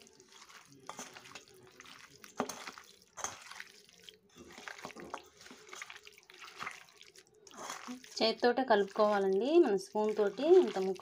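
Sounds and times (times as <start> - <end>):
hand squishing chicken in yogurt: 0.0 - 11.0.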